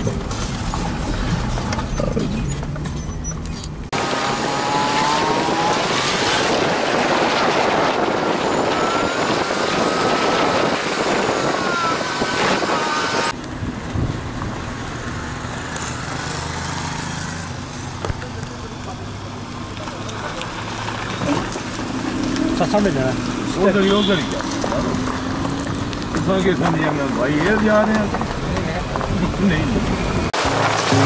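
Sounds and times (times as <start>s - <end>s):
car engine hum: 0.0s - 23.6s, 27.7s - 31.0s
wind and road noise: 0.0s - 31.0s.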